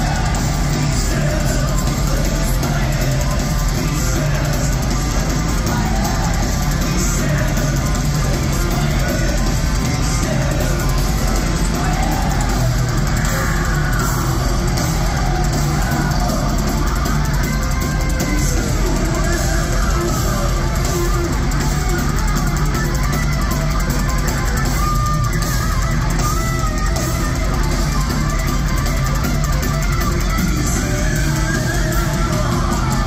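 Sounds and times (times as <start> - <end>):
heavy metal band playing live: 0.0 - 33.0
held lead guitar notes: 0.0 - 33.0.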